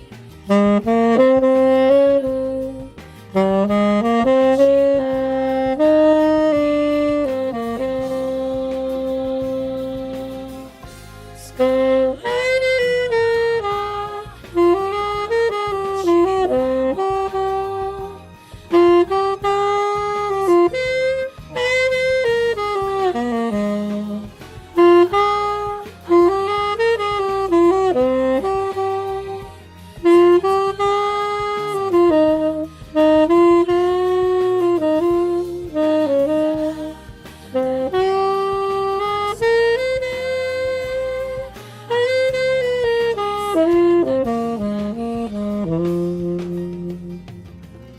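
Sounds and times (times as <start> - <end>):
tenor saxophone jazz melody: 0.0 - 47.9.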